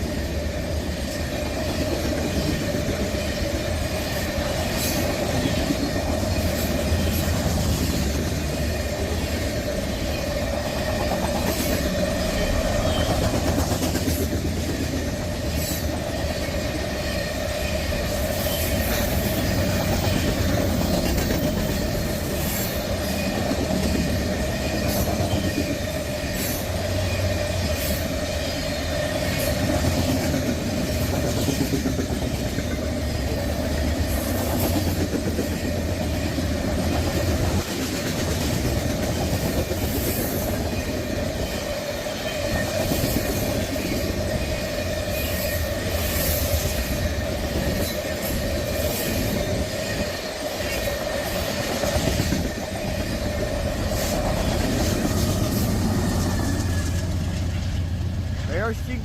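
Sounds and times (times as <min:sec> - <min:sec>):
wheels clicking over rail joints: 0:00.0 - 0:58.7
steel wheels rumbling on rail: 0:00.0 - 0:59.0.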